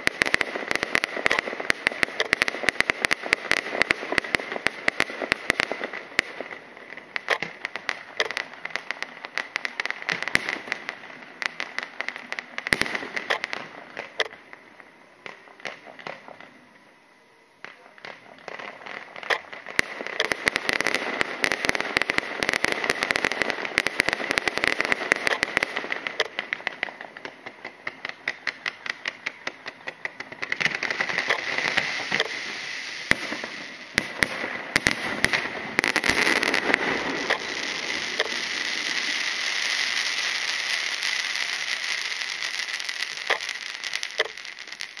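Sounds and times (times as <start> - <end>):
fireworks hissing rush: 0.0 - 16.7, 17.7 - 45.0
fireworks cracking and popping: 0.0 - 16.8, 17.6 - 45.0.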